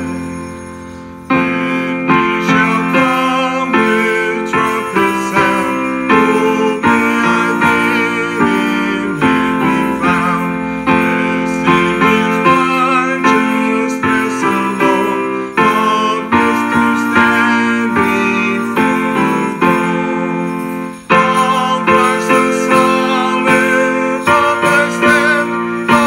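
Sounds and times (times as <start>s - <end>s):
piano chords: 0.0s - 26.0s.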